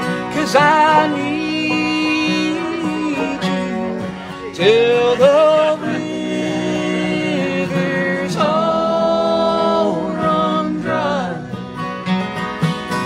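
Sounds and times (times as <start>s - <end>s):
voices singing together: 0.0s - 11.9s
acoustic guitars: 0.0s - 13.0s
banjo: 0.0s - 13.0s.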